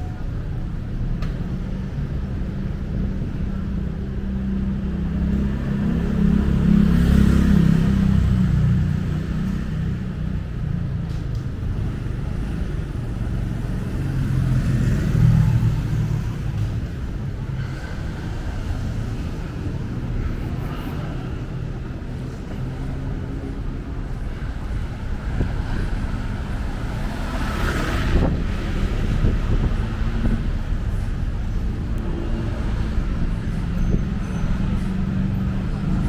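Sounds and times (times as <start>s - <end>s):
vehicle engines rumbling: 0.0s - 36.0s.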